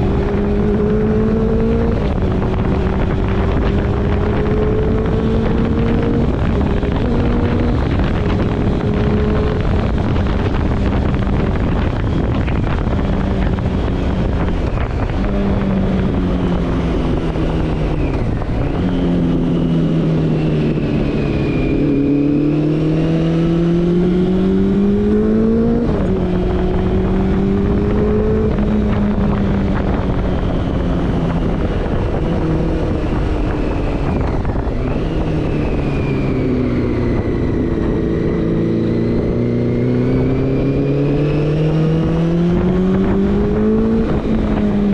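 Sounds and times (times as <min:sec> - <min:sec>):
motorcycle engine revving: 0:00.0 - 0:44.9
wind rushing over microphone: 0:00.0 - 0:44.9.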